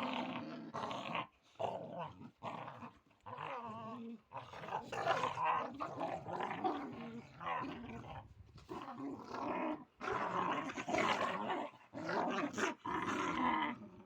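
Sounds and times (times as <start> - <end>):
dog growling: 0.0 - 14.0.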